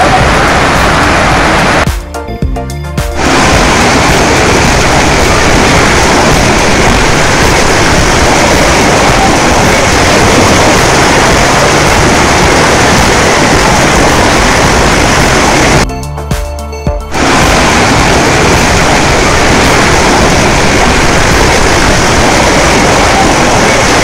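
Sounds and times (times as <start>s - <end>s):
floodwater rushing: 0.0s - 1.9s, 3.2s - 15.8s, 17.1s - 24.0s.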